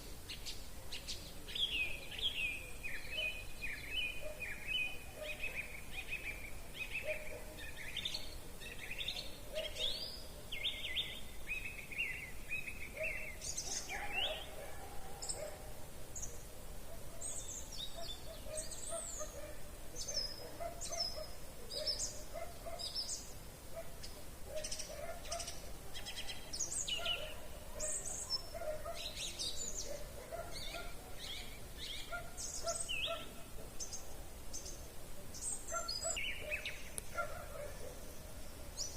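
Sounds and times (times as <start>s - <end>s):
birds chirping and trilling: 0.0s - 38.9s
lower repeated bird calls: 0.0s - 38.9s.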